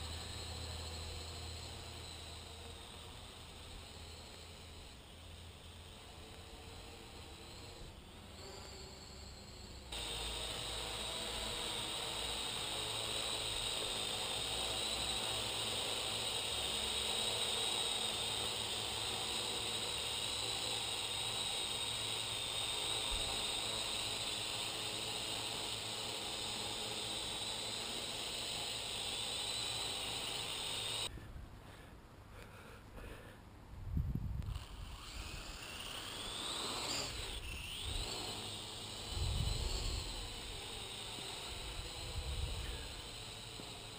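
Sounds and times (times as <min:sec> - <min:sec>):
drone rotors whining: 0:00.0 - 0:31.1, 0:34.4 - 0:43.9.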